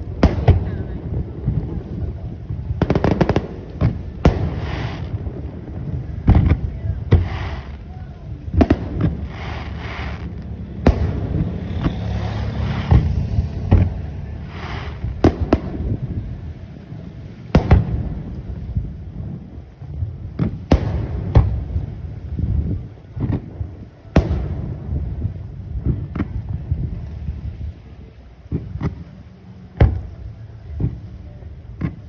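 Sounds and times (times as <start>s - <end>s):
fireworks bangs: 0.0s - 27.1s
fireworks crackling: 0.0s - 32.0s
low rumble: 0.0s - 32.0s.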